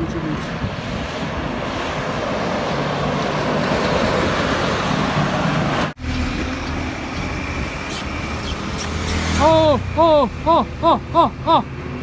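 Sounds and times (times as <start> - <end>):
highway traffic rushing: 0.0 - 12.0
truck engine hum: 0.0 - 12.0.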